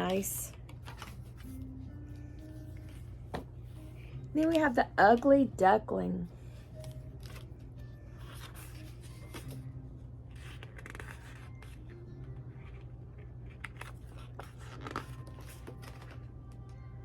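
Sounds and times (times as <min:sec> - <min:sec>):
paper and book rustling: 0:00.0 - 0:05.3, 0:06.5 - 0:16.4.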